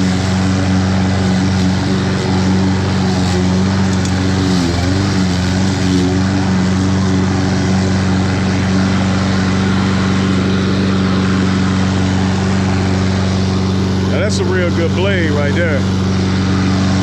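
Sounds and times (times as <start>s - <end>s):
lawn mower running: 0.0s - 17.0s.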